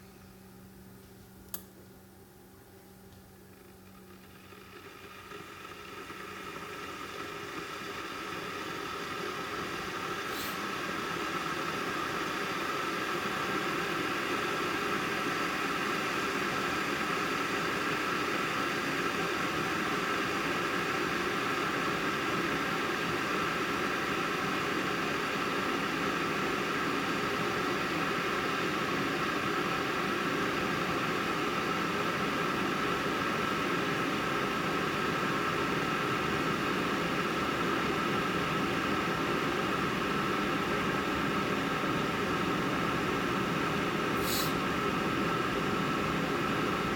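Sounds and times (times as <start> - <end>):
coffee maker brewing hiss: 2.6 - 46.9.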